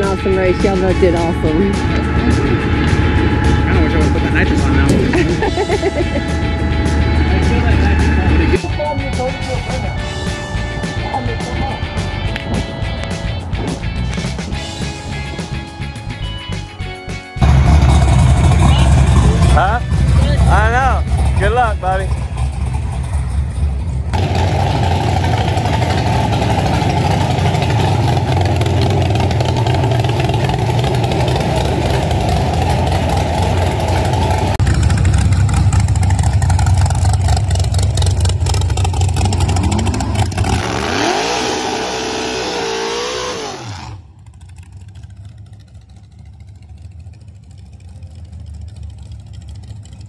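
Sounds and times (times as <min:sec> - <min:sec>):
pickup engine revving: 0:00.0 - 0:50.0.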